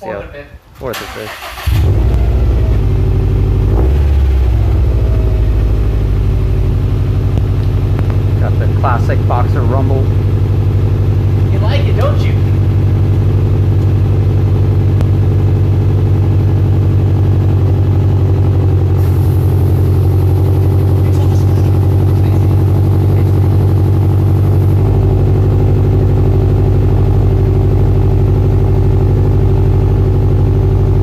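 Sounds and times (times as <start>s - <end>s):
car engine idling: 0.9s - 31.0s.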